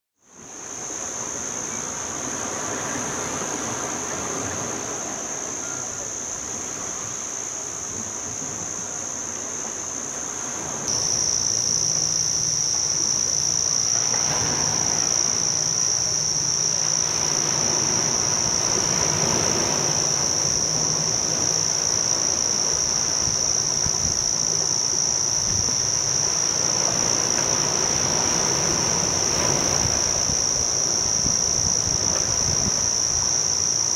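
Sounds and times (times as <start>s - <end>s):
insect chorus drone: 0.2s - 33.9s.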